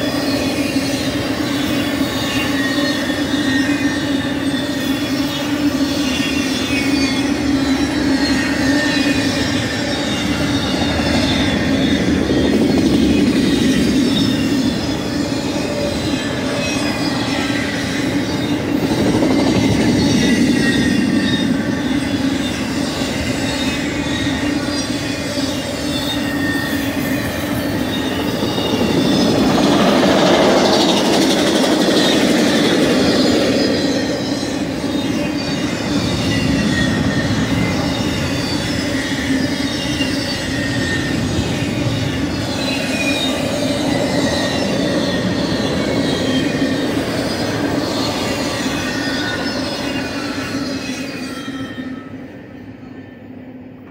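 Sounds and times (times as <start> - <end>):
high wheel squeals: 0.0 - 53.6
freight train wheels rumbling: 0.0 - 53.9.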